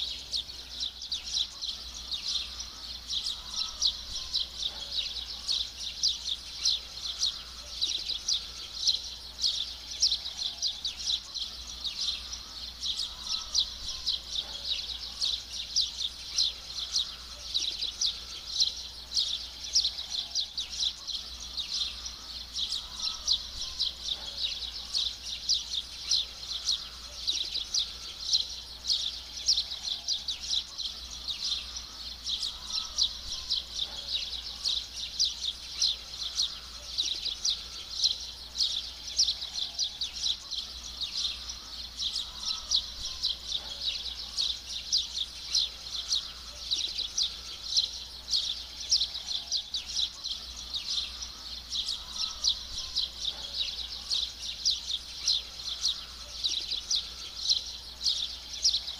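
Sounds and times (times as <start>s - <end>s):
chorus of high-pitched chirps: 0.0s - 58.9s.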